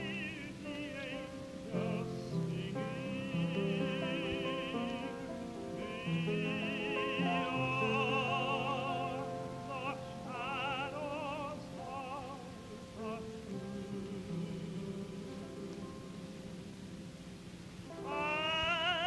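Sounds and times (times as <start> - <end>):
vocal group singing in harmony: 0.0 - 16.9, 17.9 - 19.0.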